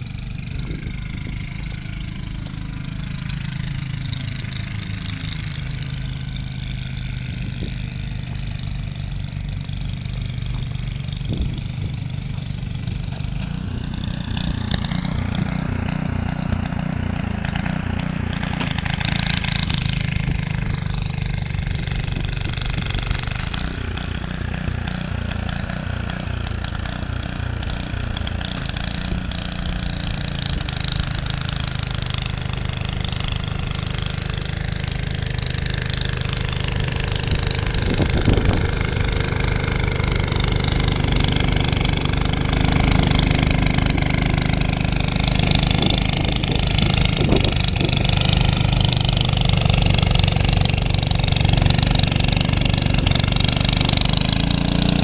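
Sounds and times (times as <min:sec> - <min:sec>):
snowblower engine chugging: 0:00.0 - 0:55.0.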